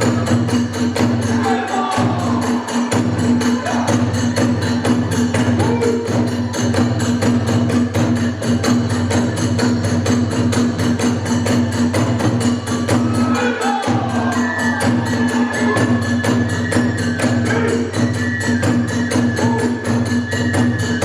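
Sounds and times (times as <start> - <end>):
drums and hand cymbals: 0.0 - 21.0.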